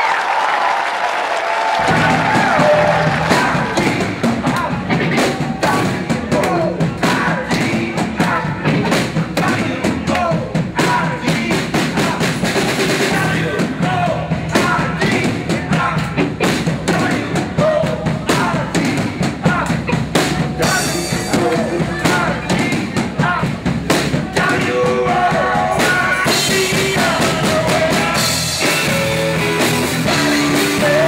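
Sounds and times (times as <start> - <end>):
rock band playing: 1.7 - 31.0
drum kit beat: 1.8 - 31.0
person singing: 1.8 - 31.0.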